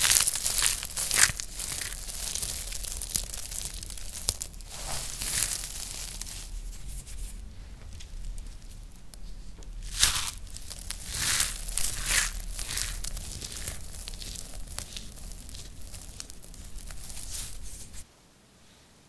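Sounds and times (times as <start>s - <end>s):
soap shavings crackling crunch: 0.0s - 18.0s.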